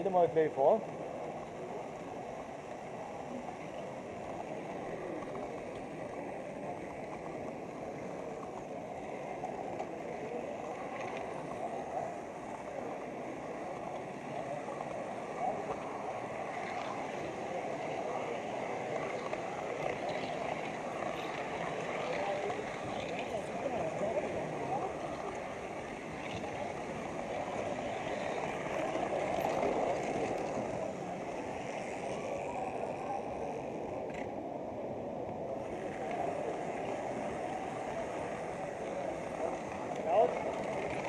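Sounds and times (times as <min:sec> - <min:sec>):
indistinct chatter of people: 0:00.0 - 0:41.0
model train wheels rumbling on track: 0:00.0 - 0:41.0.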